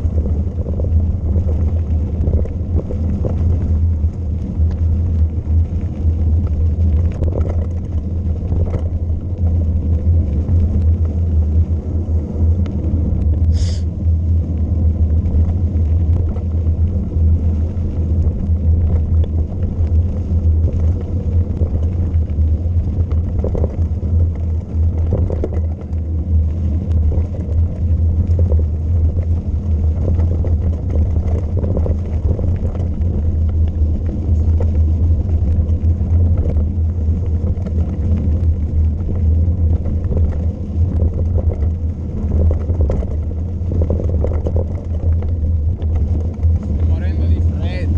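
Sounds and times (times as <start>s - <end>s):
wind buffeting and rolling noise: 0.0s - 47.9s.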